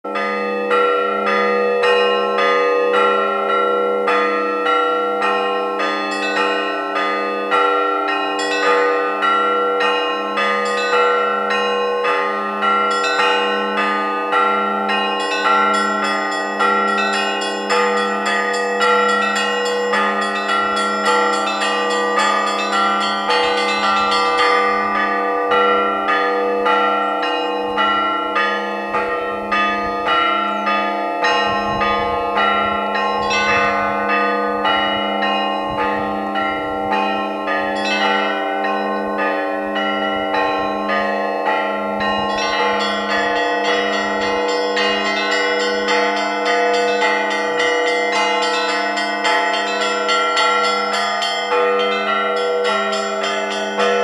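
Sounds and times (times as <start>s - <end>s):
church bells pealing: 0.1s - 54.0s
small high bells ringing: 0.2s - 54.0s.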